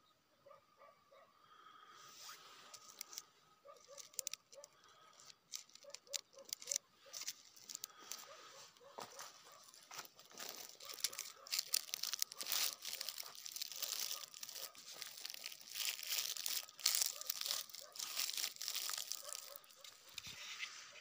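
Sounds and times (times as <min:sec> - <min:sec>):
dry grass and twigs crackling: 0:02.2 - 0:21.0.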